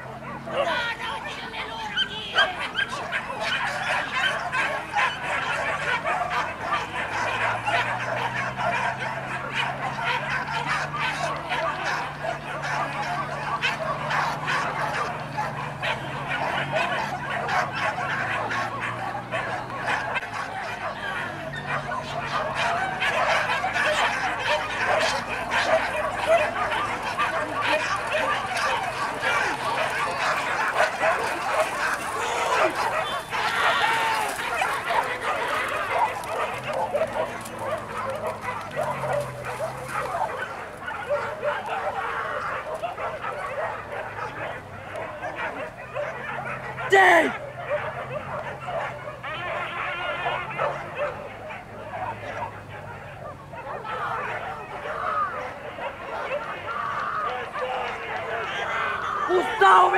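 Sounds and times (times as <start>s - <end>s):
crowd hubbub: 0.0s - 59.9s
dogs barking and yelping: 0.0s - 59.9s.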